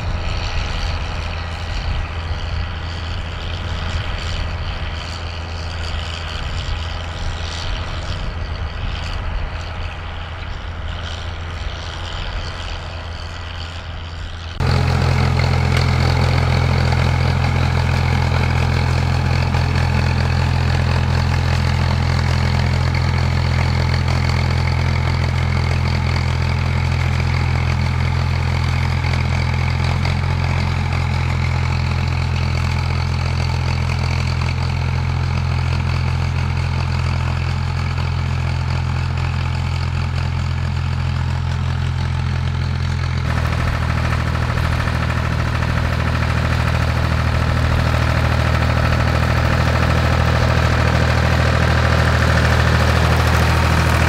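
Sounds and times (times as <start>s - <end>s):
quieter tractor engine: 0.0s - 54.0s
tractor engine droning: 0.0s - 54.0s.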